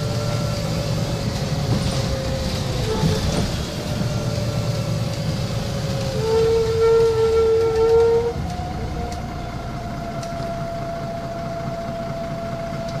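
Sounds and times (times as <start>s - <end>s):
bus engine rumble: 0.0s - 13.0s
drivetrain whine: 0.0s - 13.0s.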